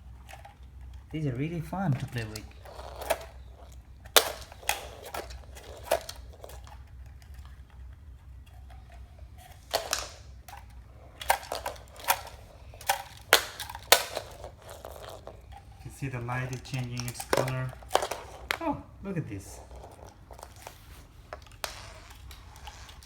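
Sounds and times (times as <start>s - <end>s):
toys clicking and clacking: 0.0s - 23.0s.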